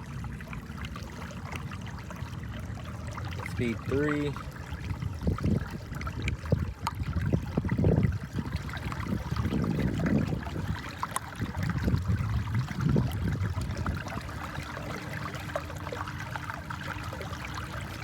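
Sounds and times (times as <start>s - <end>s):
water lapping against kayak hull: 0.0s - 18.0s.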